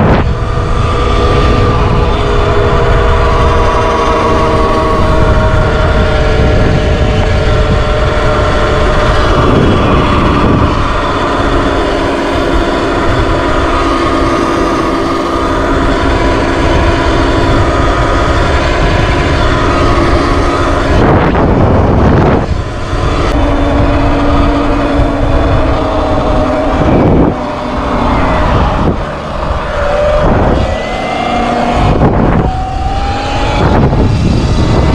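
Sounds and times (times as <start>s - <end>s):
electric motor whine: 0.0s - 34.9s
wind buffeting microphone: 0.0s - 34.9s.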